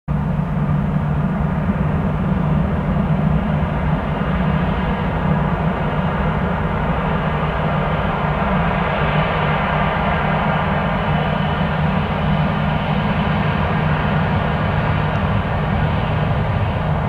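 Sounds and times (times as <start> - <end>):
jet engines at takeoff power: 0.1 - 17.0.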